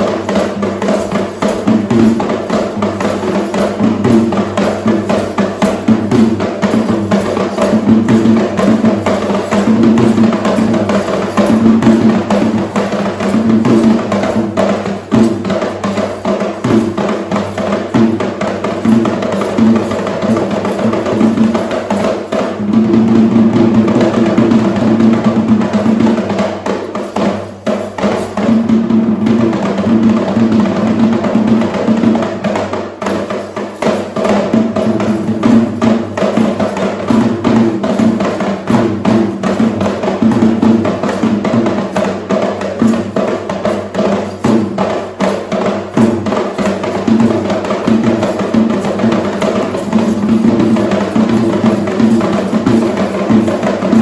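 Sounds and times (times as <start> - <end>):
fast drumming: 0.0 - 54.0.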